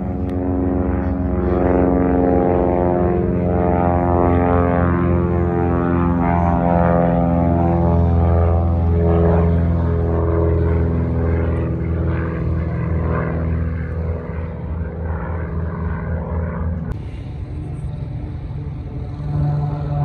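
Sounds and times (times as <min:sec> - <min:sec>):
propeller airplane engine drone: 0:00.0 - 0:20.0.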